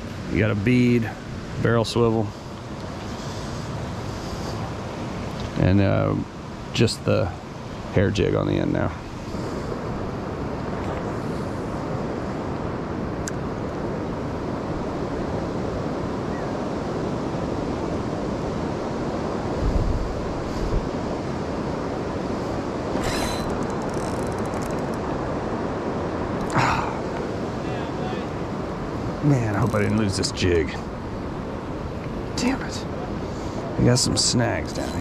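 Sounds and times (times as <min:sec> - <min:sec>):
river water rushing: 0:00.0 - 0:35.0
wind buffeting microphone: 0:00.0 - 0:35.0.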